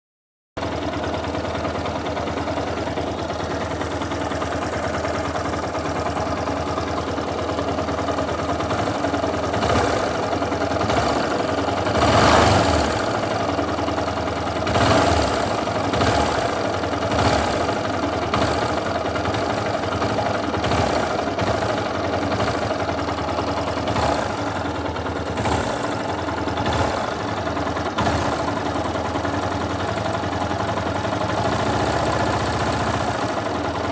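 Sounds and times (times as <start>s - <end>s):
motorcycle engine idling and revving: 0.6s - 33.9s.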